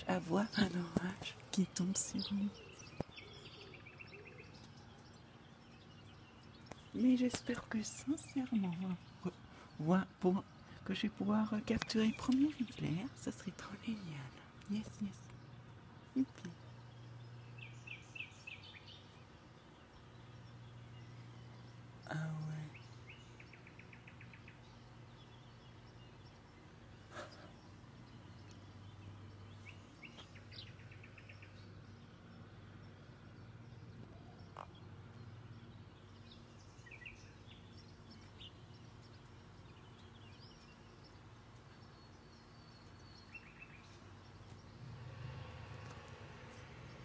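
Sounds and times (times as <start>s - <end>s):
low steady hum: 0.0s - 47.0s
small birds chirping: 0.0s - 47.0s.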